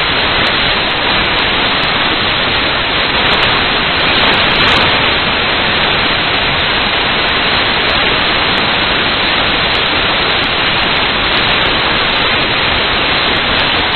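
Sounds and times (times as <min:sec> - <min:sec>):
loud static hiss: 0:00.0 - 0:13.9.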